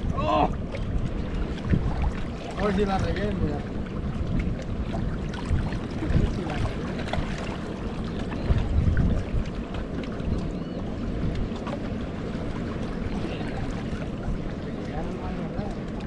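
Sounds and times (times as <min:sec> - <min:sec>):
water lapping against rocks: 0:00.0 - 0:16.0
wind buffeting microphone: 0:00.0 - 0:16.0.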